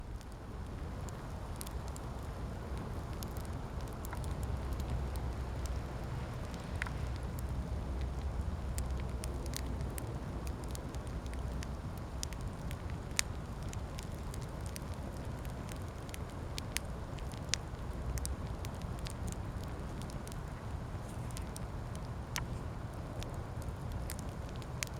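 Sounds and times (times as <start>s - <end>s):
low rush of flame: 0.0s - 24.9s
wood crackling and popping: 0.0s - 24.9s.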